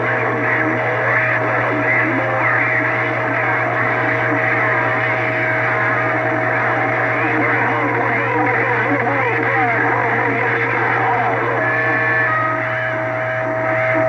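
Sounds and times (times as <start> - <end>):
garbled radio voices: 0.0 - 14.0
radio hum and static: 0.0 - 14.0.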